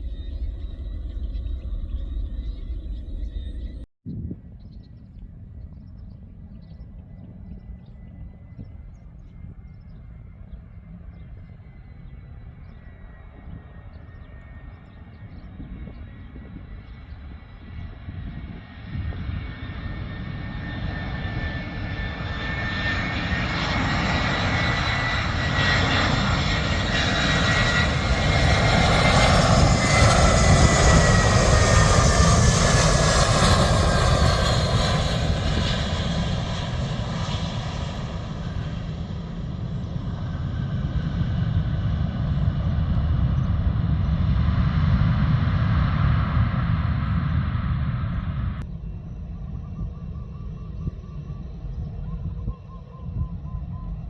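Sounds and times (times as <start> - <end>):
jet airliner passing: 0.0 - 54.0.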